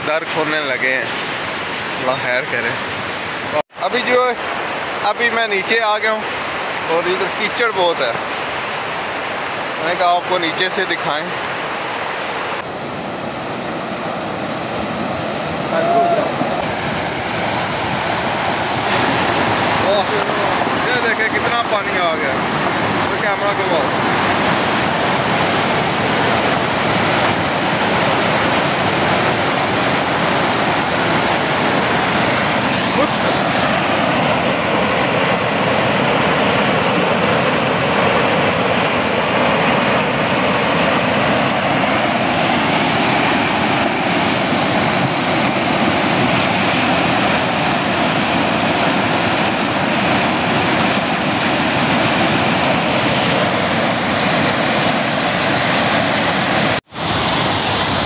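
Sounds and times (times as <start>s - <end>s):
floodwater rushing through gates: 0.0s - 58.0s.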